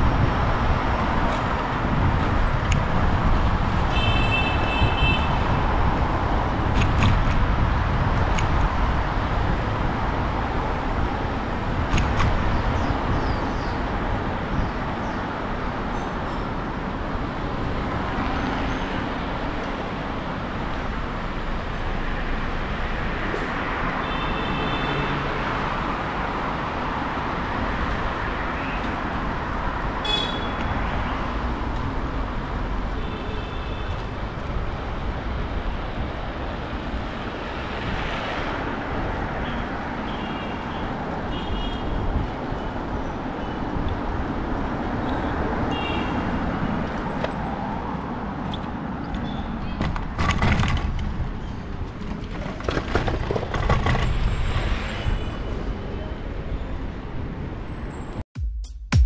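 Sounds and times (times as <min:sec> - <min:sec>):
road traffic noise: 0:00.0 - 0:58.3.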